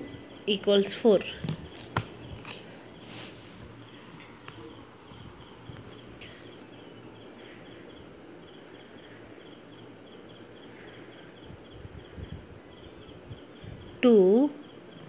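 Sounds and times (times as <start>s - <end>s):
faint room noise: 0.0s - 15.0s
insect chirping: 0.0s - 15.0s.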